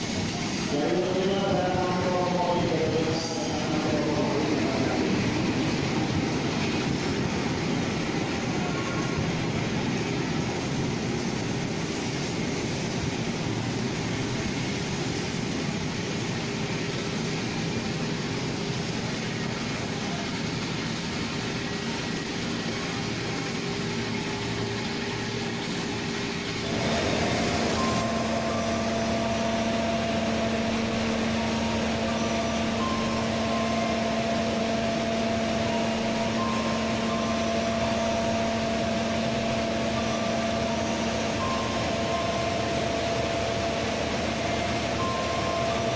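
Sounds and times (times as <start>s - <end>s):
standing train hum: 0.0s - 45.9s
train rumbling slowly: 0.0s - 45.9s.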